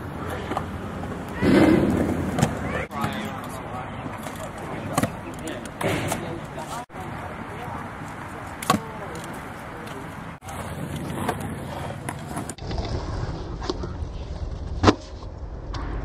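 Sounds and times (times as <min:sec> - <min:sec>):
scooter wheels rolling on concrete: 0:00.0 - 0:15.3.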